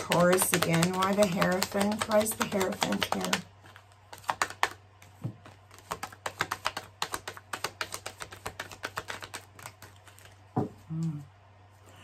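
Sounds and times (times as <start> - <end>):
cards being shuffled by hand: 0.0 - 11.1.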